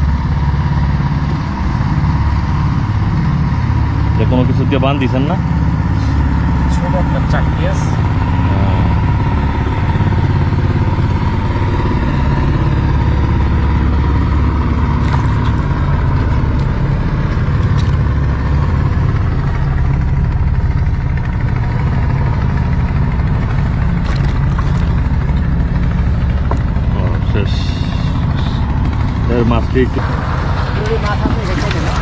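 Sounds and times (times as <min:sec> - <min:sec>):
boat engine throbbing: 0:00.0 - 0:32.0.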